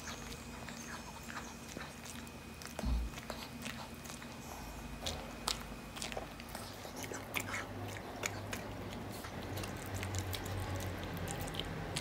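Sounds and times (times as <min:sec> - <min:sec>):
dog chewing wetly: 0:00.0 - 0:12.0.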